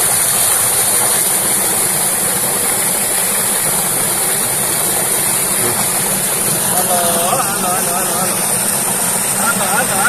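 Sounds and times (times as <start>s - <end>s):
water gushing into pool: 0.0s - 10.0s.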